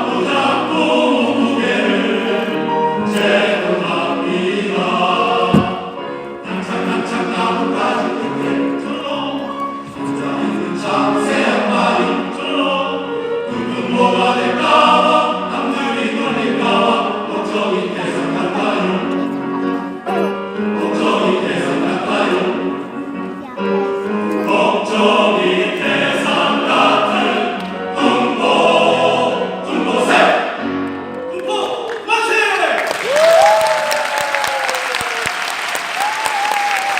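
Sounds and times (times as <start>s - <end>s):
men's choir singing: 0.0s - 23.2s, 24.0s - 31.1s.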